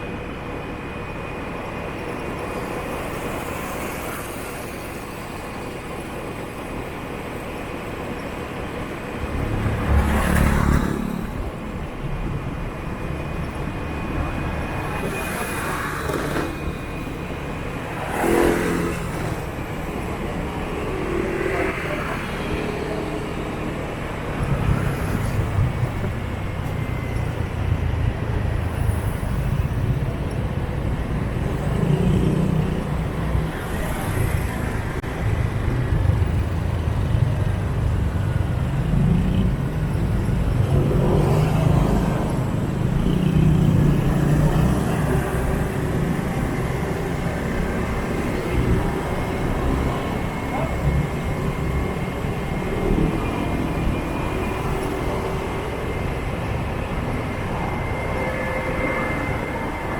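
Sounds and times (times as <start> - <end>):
motorbikes passing: 8.8 - 59.9.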